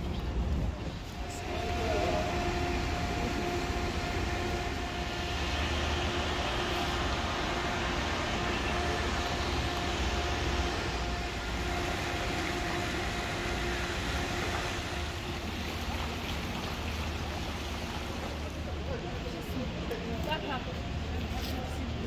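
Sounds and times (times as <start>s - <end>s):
faint hum: 0.0s - 22.0s
low rumbling noise: 0.0s - 22.0s.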